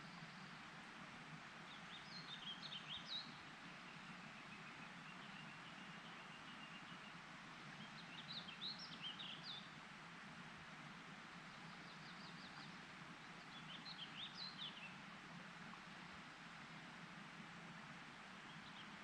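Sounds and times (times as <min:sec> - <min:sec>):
songbird singing faintly: 0:00.0 - 0:09.9, 0:11.1 - 0:19.0
faint outdoor hiss: 0:00.0 - 0:19.0.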